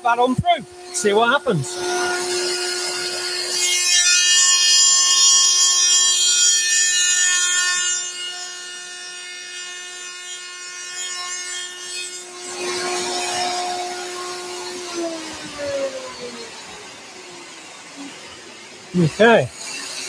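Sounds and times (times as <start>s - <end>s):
router cutting board: 0.0s - 20.0s
router whining: 0.0s - 20.0s.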